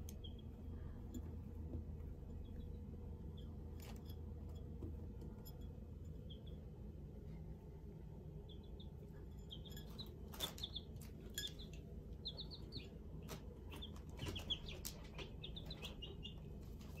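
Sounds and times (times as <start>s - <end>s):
beaks tapping on plates: 0.0s - 6.7s, 8.6s - 17.0s
chicks peeping: 0.0s - 6.9s, 8.3s - 17.0s.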